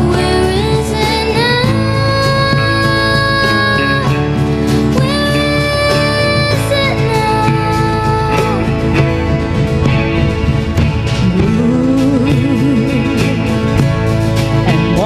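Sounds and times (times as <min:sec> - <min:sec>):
person singing: 0:00.0 - 0:09.4, 0:11.1 - 0:15.0
worship band playing: 0:00.0 - 0:15.0.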